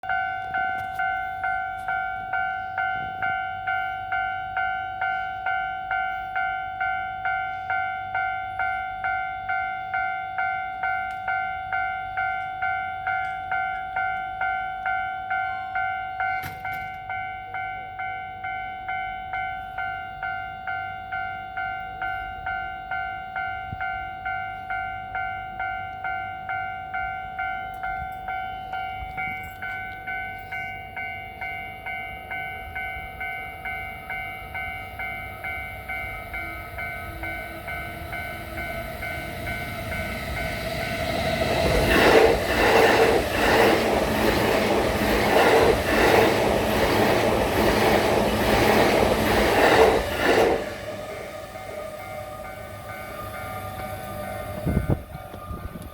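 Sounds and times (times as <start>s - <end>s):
level-crossing warning bell ringing: 0.0s - 55.9s.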